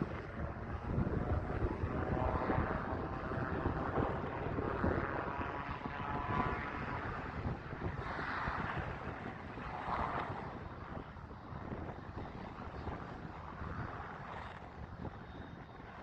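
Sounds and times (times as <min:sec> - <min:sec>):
propeller aircraft drone: 0:00.0 - 0:16.0
wind rumble on microphone: 0:00.0 - 0:16.0.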